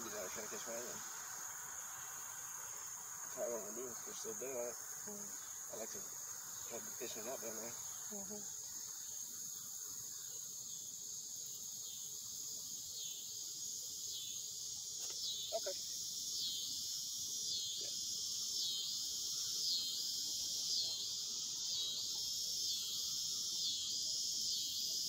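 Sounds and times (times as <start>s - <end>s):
insects droning in a pulsing beat: 0.0s - 25.0s.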